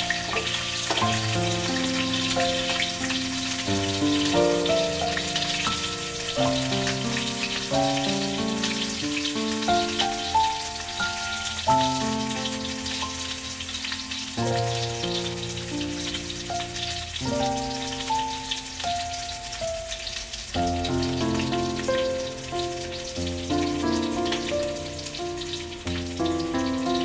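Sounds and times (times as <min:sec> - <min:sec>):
background music of held chords: 0:00.0 - 0:27.0
fish sizzling in oil: 0:00.0 - 0:27.0.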